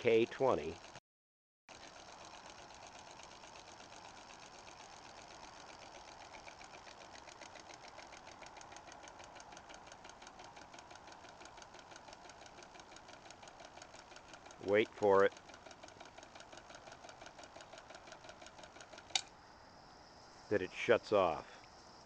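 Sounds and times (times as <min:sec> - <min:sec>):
sprinkler drive ticking: 0:00.0 - 0:01.0, 0:01.7 - 0:19.3.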